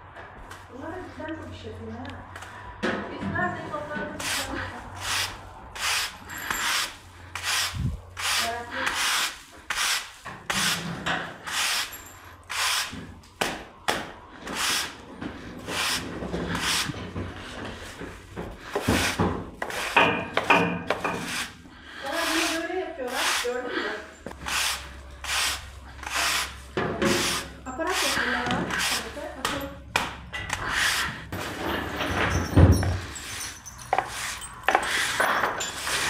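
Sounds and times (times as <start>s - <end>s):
manure scraped along barn floor: 3.4s - 13.4s, 14.3s - 29.8s, 30.5s - 36.0s.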